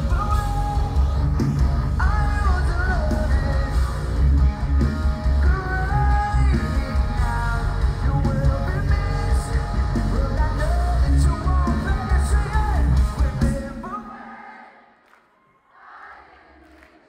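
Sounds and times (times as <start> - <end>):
live metal band playing: 0.0 - 13.9.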